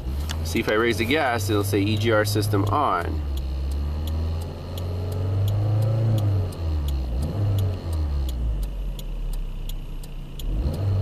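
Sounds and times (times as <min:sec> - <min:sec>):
car engine revving: 0:00.0 - 0:11.0
light even ticking: 0:00.0 - 0:11.0.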